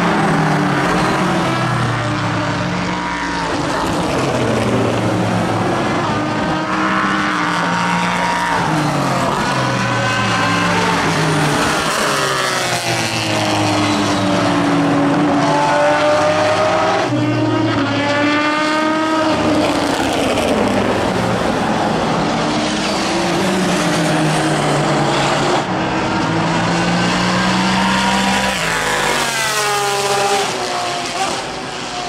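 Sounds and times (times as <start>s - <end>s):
race cars driving past: 0.0s - 32.0s.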